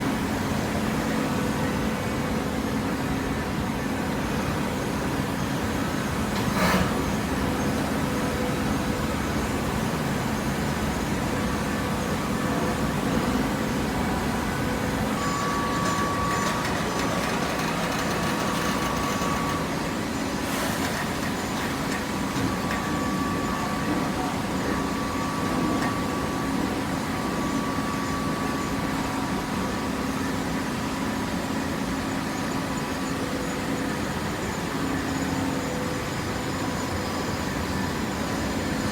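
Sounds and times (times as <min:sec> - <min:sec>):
machinery humming: 0:00.1 - 0:38.9
thin steady whine: 0:04.2 - 0:38.9.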